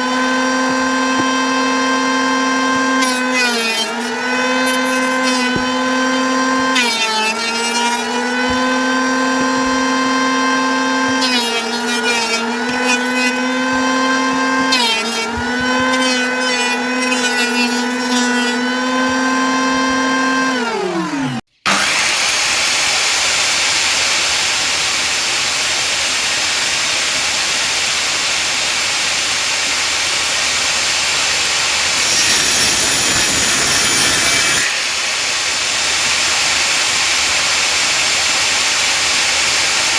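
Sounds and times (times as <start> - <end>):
power tool motor cutting: 0.0 - 39.9.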